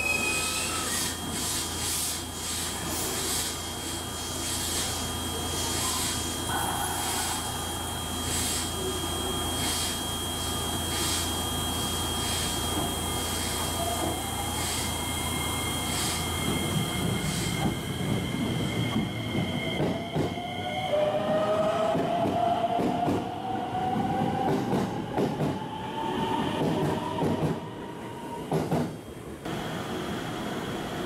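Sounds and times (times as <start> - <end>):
electric train motors whining: 0.0 - 28.4.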